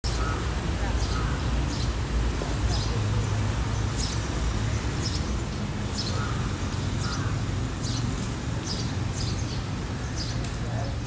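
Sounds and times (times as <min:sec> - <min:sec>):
low rumble of traffic or wind: 0:00.0 - 0:11.0.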